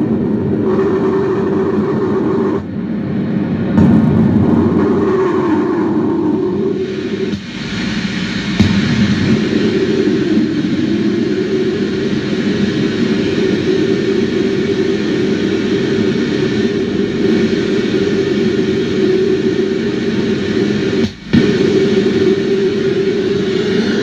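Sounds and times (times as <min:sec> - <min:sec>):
effects-pedal storm noise: 0:00.0 - 0:24.0.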